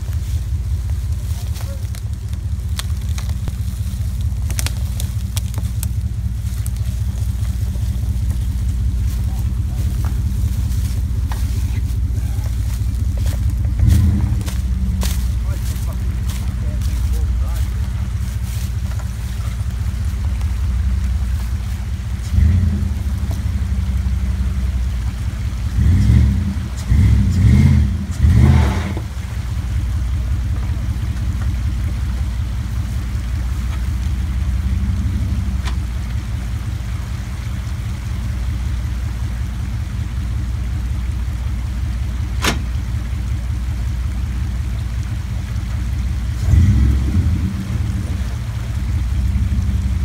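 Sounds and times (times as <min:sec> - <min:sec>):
truck engine running low: 0:00.0 - 0:50.0.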